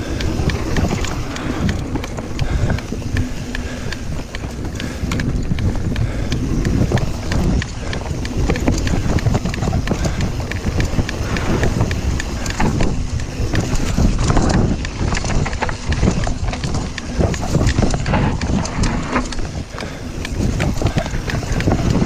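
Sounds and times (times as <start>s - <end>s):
bike rattling and clicking: 0.0s - 22.0s
bike tyres rumbling on dirt: 0.0s - 22.0s.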